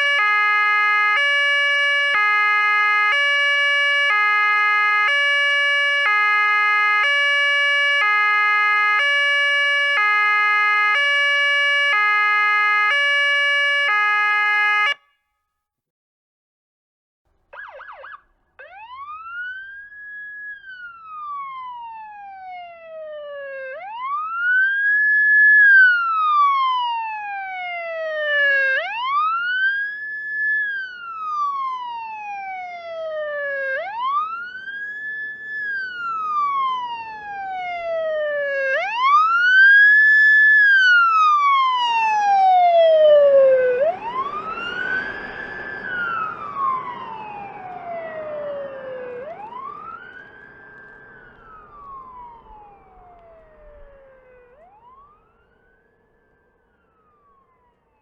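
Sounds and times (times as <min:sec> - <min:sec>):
police siren wailing: 0:00.0 - 0:15.1, 0:17.5 - 0:58.0.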